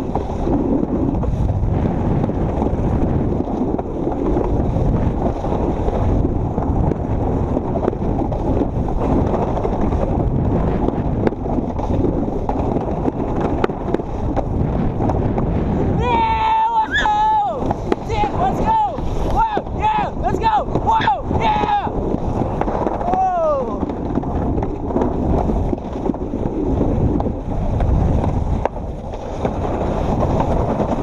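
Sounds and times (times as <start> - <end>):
sled rolling rumble on track: 0.0 - 31.0
wind buffeting microphone: 0.0 - 31.0.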